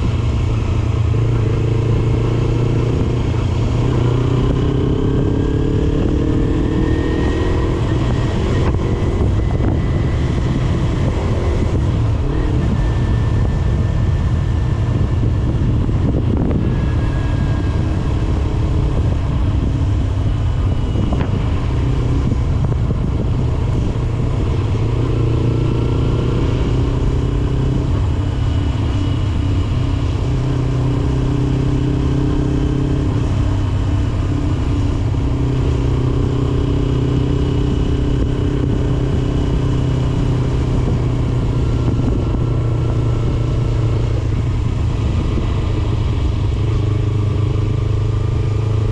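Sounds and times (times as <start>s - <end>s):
motorcycle engine accelerating: 0.0s - 48.9s
wind rush: 0.0s - 48.9s.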